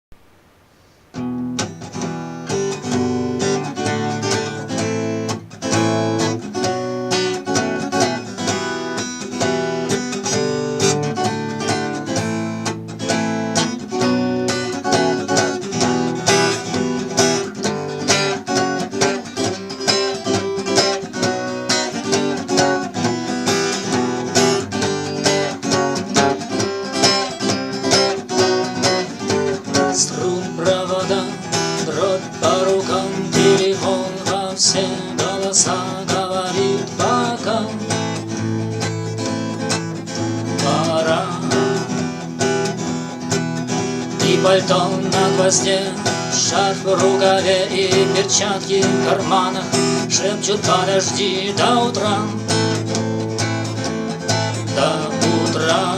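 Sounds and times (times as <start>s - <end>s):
acoustic guitar strumming: 0.1s - 55.9s.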